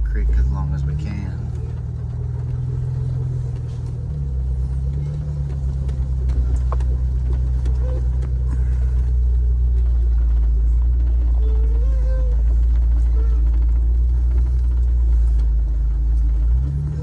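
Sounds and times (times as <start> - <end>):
car engine low drone: 0.0 - 17.0
clicks and knocks from bumpy ground: 1.5 - 17.0.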